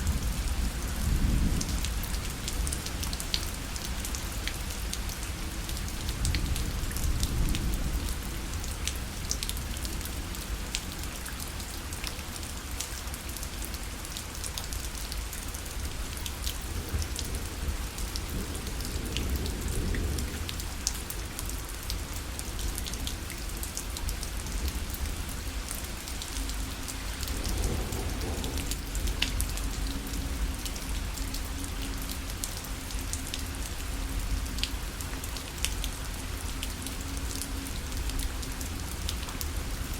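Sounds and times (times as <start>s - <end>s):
rain on a parasol: 0.0s - 39.9s.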